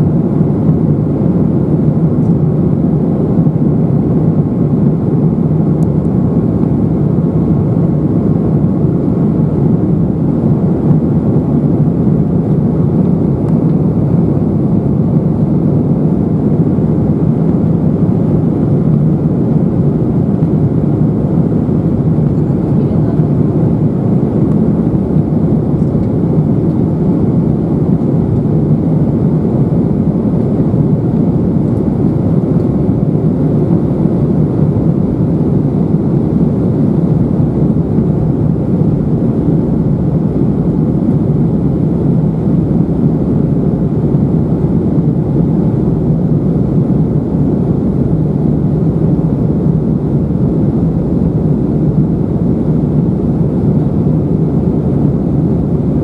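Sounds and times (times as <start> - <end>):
airflow over fuselage: 0.0 - 56.0
jet engine drone: 0.0 - 56.0.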